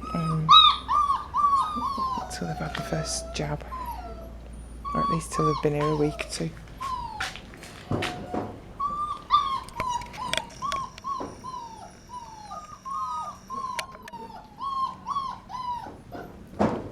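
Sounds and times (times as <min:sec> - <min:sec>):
puppy whimpering: 0:00.0 - 0:16.6.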